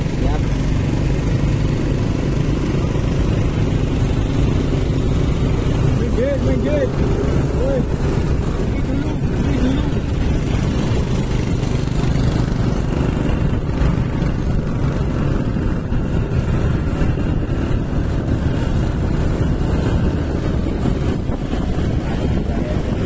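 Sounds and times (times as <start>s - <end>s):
motorcycle engines running: 0.0s - 23.0s
wind rumble on microphone: 0.0s - 23.0s.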